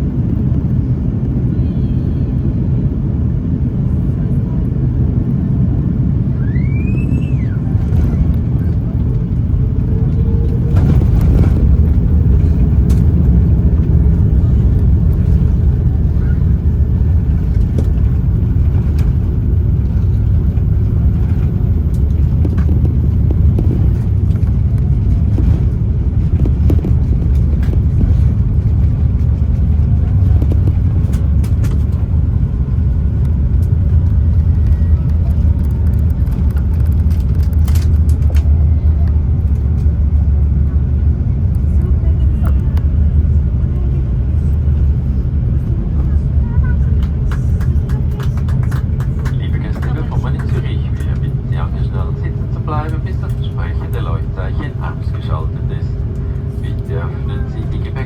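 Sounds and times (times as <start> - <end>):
airliner engines rumbling: 0.0 - 58.0.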